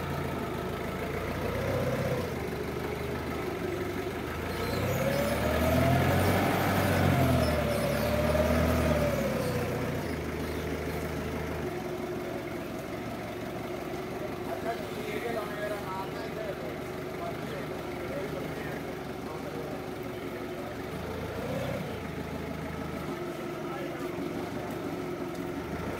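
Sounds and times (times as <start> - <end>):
forklift engine revving: 0.0 - 25.9.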